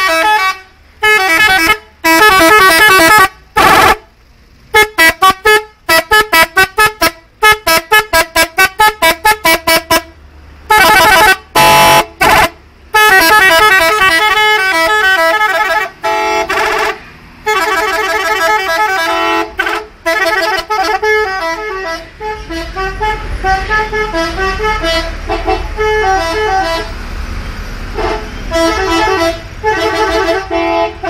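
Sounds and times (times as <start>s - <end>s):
musical horn playing a tune: 0.0s - 4.0s, 4.7s - 10.1s, 10.7s - 26.9s, 28.0s - 31.0s.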